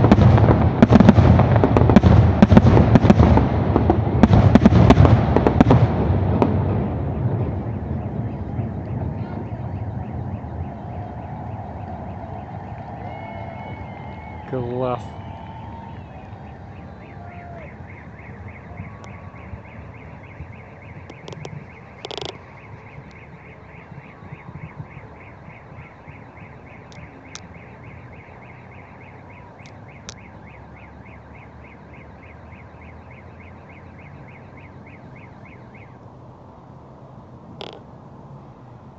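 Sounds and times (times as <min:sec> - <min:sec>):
distant fireworks bangs: 0:00.0 - 0:31.8.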